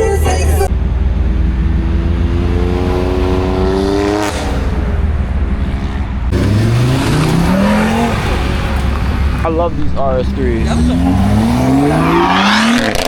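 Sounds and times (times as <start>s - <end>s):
car engine accelerating: 0.0s - 13.0s
engine revving up: 1.3s - 13.0s.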